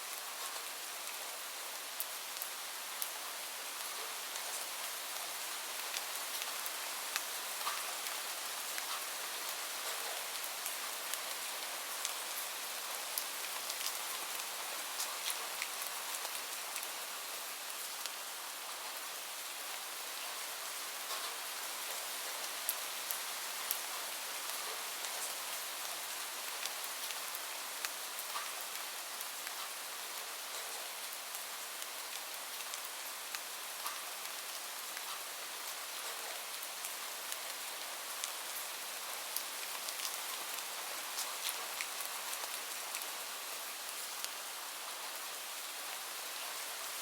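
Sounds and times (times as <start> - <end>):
steady rain hiss: 0.0 - 47.0.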